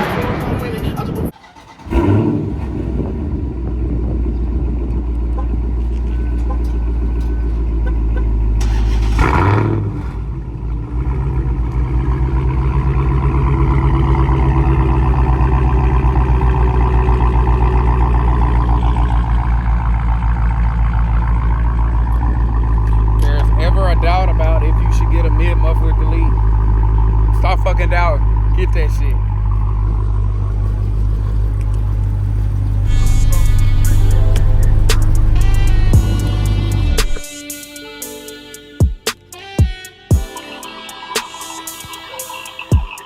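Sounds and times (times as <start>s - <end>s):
loud car engine rumble: 0.0s - 38.2s.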